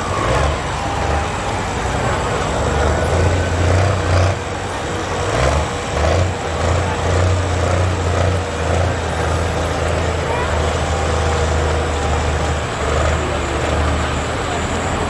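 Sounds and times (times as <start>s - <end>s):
tractor diesel engine droning: 0.0s - 15.0s.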